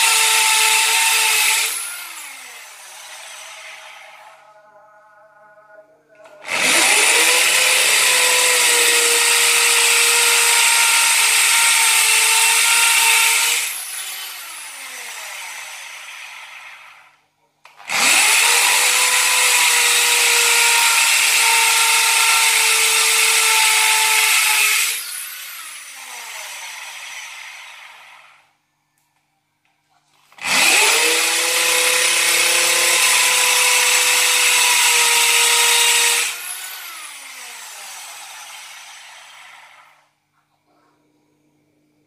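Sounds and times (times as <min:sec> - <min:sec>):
electric drill boring into wall: 0:00.0 - 0:04.4, 0:06.3 - 0:17.2, 0:17.8 - 0:28.5, 0:30.3 - 0:40.1.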